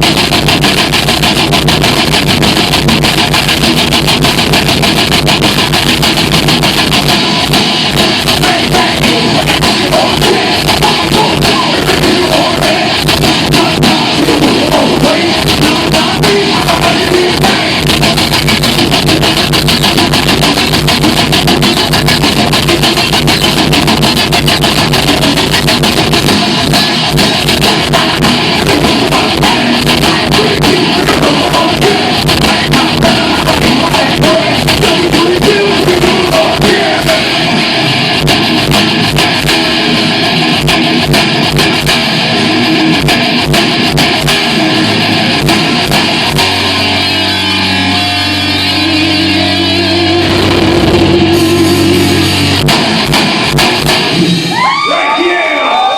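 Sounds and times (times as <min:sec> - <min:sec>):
heavy metal band playing: 0:00.0 - 0:55.9.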